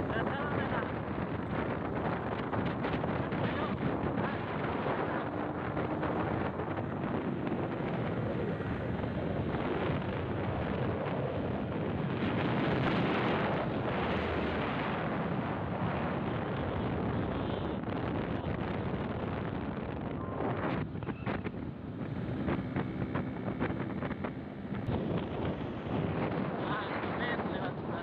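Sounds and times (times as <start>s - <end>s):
road noise: 0.0s - 28.0s
wind buffeting microphone: 0.0s - 28.0s.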